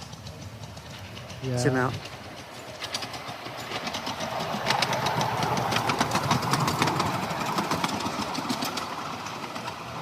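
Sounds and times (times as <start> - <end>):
model train running on track: 0.0 - 10.0
wheels clicking rapidly: 0.0 - 10.0.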